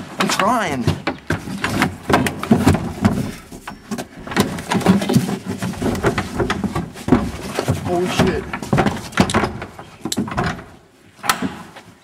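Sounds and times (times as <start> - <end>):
barn door knocking and scraping: 0.0 - 12.0.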